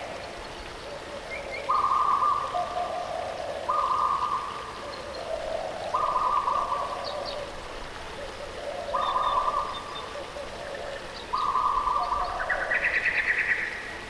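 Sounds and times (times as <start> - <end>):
flowing water: 0.0 - 14.0.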